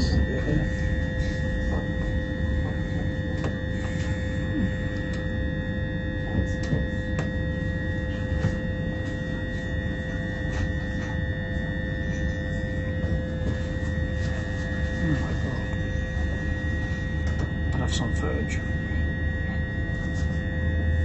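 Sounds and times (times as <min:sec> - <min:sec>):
electrical whine tones: 0:00.0 - 0:21.0
train cabin low rumble: 0:00.0 - 0:21.0.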